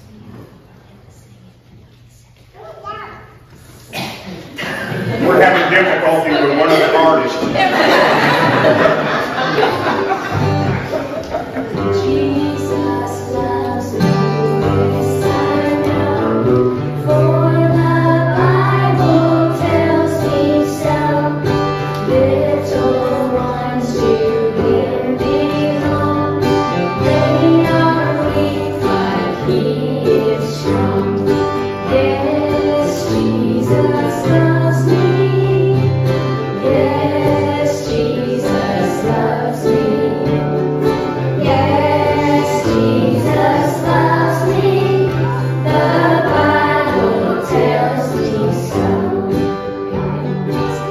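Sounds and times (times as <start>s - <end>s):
strummed acoustic guitar: 4.8s - 50.9s
children's choir singing a hymn: 5.2s - 50.9s
plucked string instrument: 8.3s - 50.9s.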